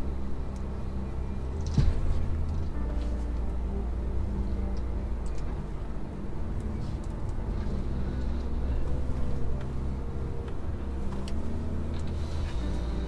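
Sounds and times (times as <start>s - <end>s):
heavy machinery droning: 0.0s - 13.0s.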